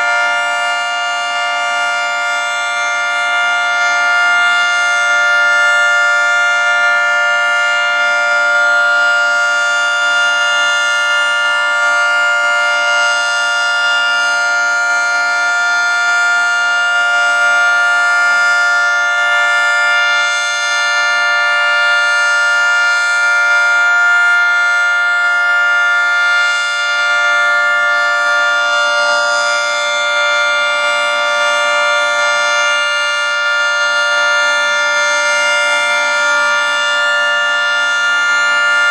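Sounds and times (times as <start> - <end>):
steady warning siren: 0.0 - 38.9.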